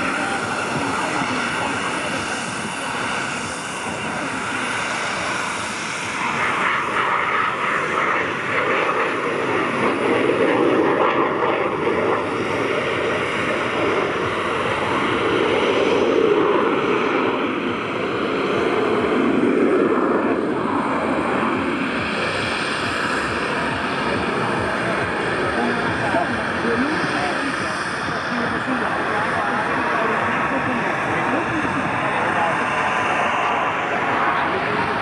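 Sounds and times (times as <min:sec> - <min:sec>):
jet engine flying overhead: 0:00.0 - 0:35.0.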